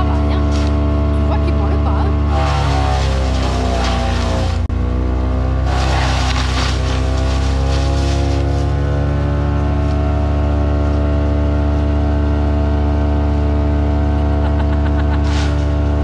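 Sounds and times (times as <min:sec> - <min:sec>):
wood chipper engine running: 0:00.0 - 0:16.0.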